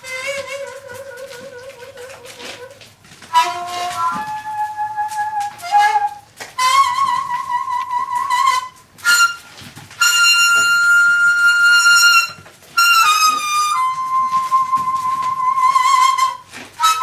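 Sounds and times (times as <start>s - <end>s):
bamboo flute slow melody: 0.0s - 17.0s.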